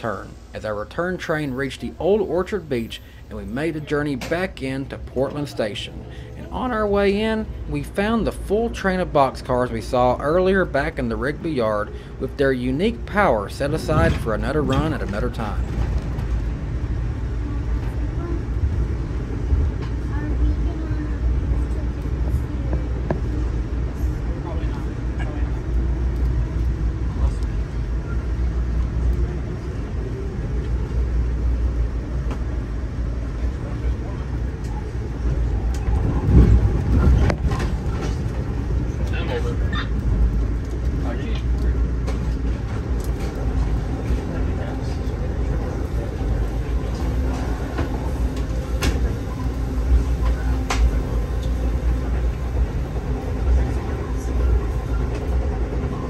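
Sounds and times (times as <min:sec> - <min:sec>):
train coach rumbling on rails: 0:00.0 - 0:56.0.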